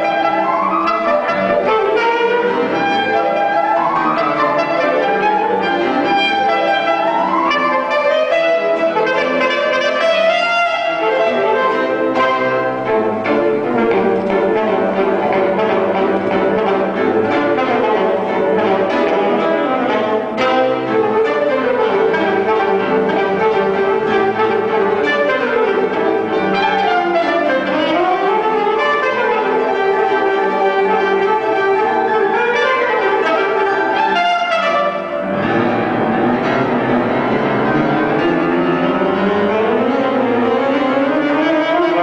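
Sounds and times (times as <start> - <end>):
alto saxophone: 0.0 - 42.0
grand piano: 0.0 - 42.0.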